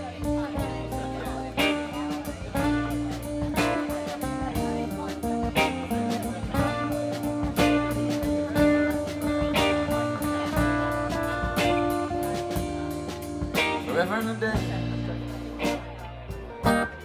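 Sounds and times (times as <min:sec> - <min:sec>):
acoustic and electric guitars: 0:00.0 - 0:17.0
drums: 0:00.0 - 0:17.0.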